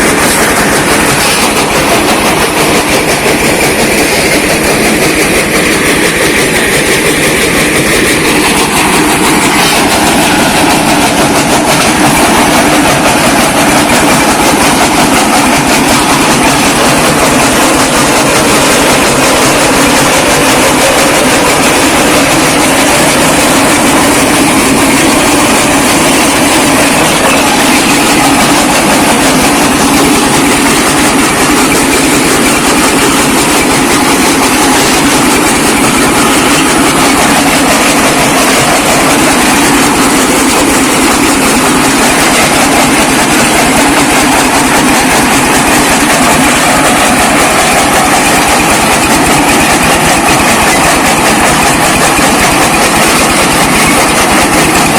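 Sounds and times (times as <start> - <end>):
brick-breaking machine grinding: 0.0 - 54.9.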